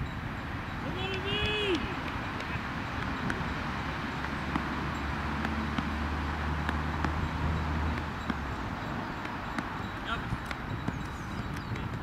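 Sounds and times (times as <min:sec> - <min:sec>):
low steady engine hum: 0:00.0 - 0:12.0.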